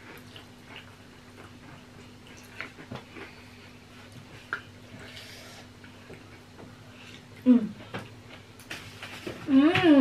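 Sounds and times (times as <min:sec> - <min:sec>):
people chewing: 0:00.0 - 0:09.4
steady low hum: 0:00.0 - 0:10.0.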